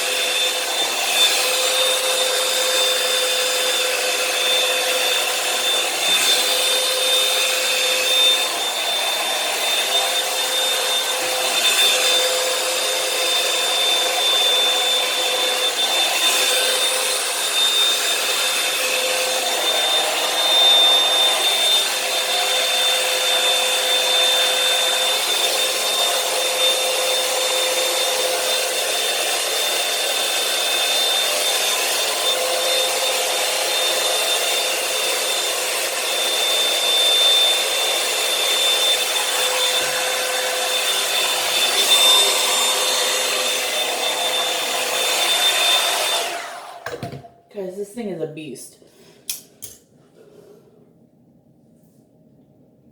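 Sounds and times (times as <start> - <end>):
hair dryer running: 0.0 - 48.5.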